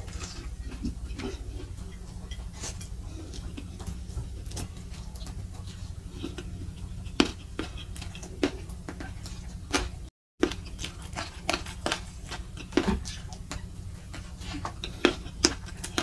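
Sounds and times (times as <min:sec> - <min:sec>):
chewing with wet mouth clicks: 0:00.0 - 0:16.0
steady low hum: 0:00.0 - 0:16.0.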